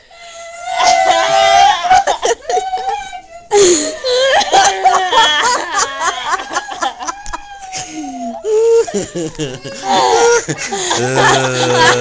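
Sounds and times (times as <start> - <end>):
people laughing hard: 0.7 - 12.0.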